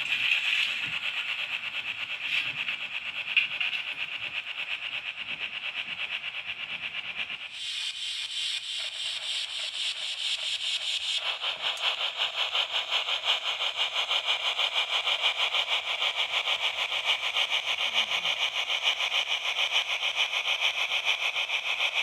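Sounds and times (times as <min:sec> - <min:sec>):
model train rolling whirr: 0:00.0 - 0:22.0.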